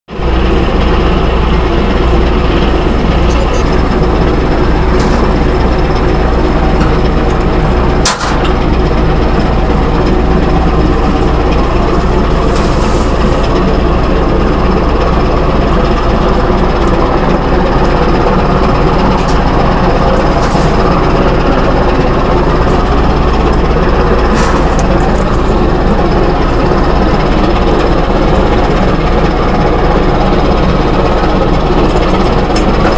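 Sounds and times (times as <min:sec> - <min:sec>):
machinery running with low rumble: 0:00.1 - 0:32.9.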